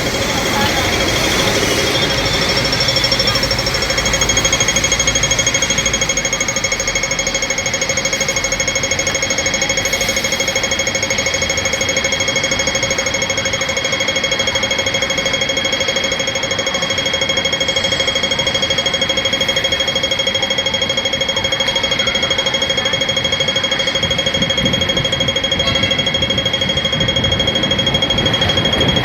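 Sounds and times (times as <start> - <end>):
crossing signal ticking rapidly: 0.0 - 29.0.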